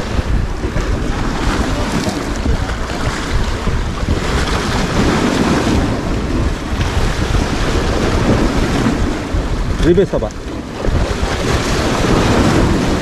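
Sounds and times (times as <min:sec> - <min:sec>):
waves breaking against rocks: 0:00.0 - 0:13.0
wind buffeting the microphone: 0:00.0 - 0:13.0.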